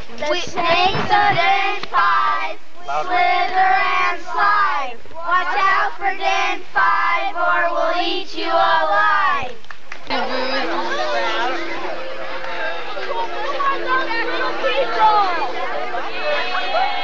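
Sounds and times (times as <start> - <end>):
children singing together: 0.2 - 17.0.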